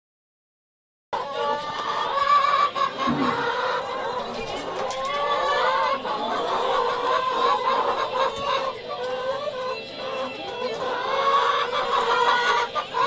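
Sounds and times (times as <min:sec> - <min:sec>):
chickens clucking and hollering: 0:01.2 - 0:13.0.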